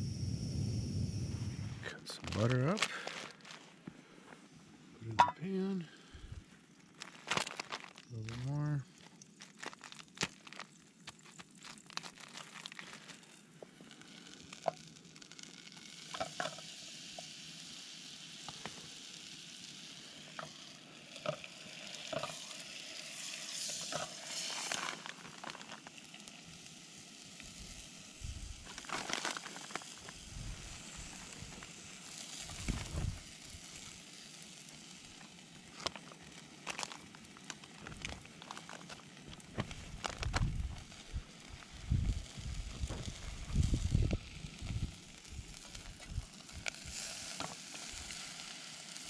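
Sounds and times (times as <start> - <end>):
butter sizzling in pan: 6.4 - 8.2, 8.9 - 49.0.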